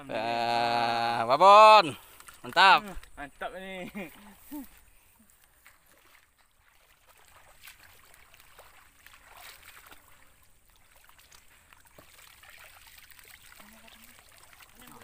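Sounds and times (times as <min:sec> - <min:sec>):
pond water sloshing: 0:00.0 - 0:15.0.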